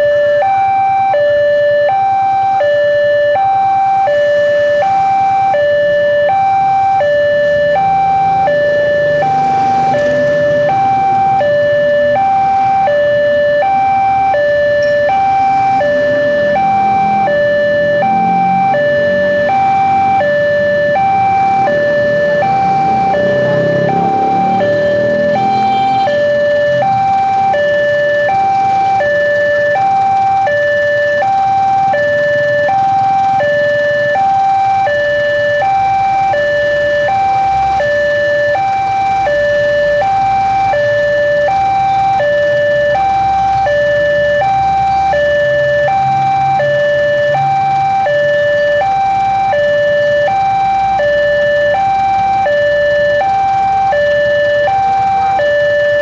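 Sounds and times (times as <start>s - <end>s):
level crossing alarm two-tone: 0.0s - 56.0s.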